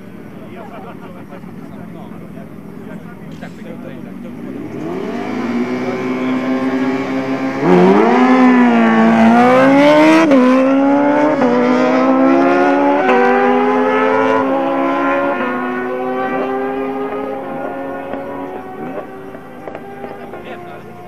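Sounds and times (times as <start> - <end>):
drag racing car accelerating: 0.0 - 21.0.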